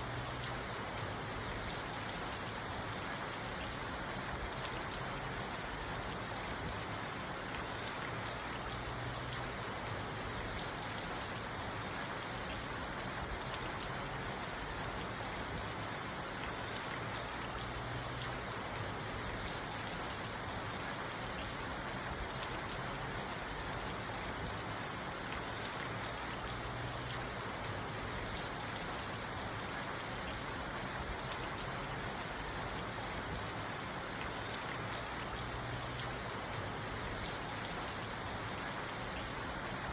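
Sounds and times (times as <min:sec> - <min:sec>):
rain drumming on a car roof: 0:00.0 - 0:39.9.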